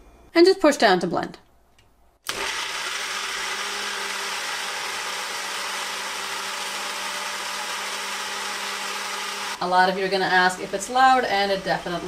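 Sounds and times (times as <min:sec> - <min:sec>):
blender whirring: 0:02.3 - 0:12.0.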